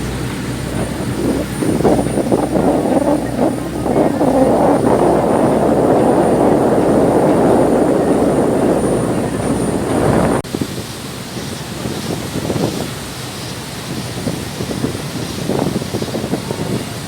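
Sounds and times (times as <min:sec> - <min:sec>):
motorboat engine: 0:00.0 - 0:17.0
water rushing: 0:00.0 - 0:17.0
waves washing: 0:00.0 - 0:17.0
wind: 0:00.0 - 0:17.0.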